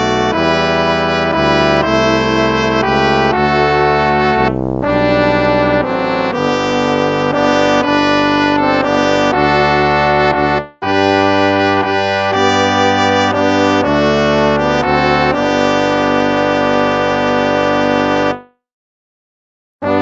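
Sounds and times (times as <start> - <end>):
brass hymn chords: 0.0 - 18.6.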